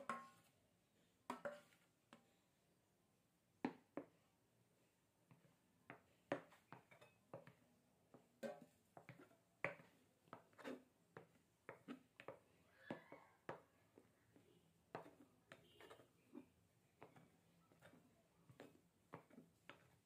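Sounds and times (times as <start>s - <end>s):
soft wet squishes of batter: 0.0s - 20.0s.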